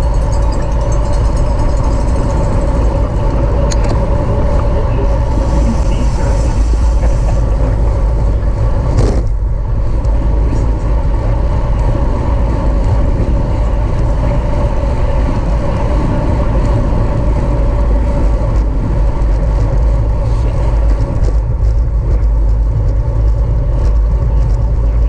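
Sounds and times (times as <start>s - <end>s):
steady hum: 0.0s - 25.0s
wind rumble on microphone: 0.0s - 25.0s.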